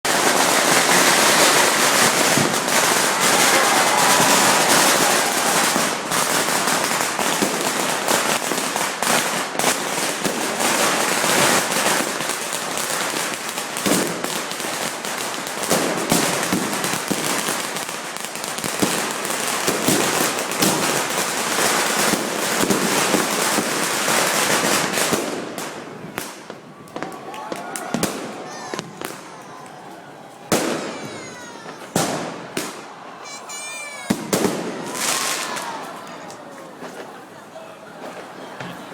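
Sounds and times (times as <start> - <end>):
fireworks crackling and banging: 0.0 - 37.4, 38.0 - 38.9.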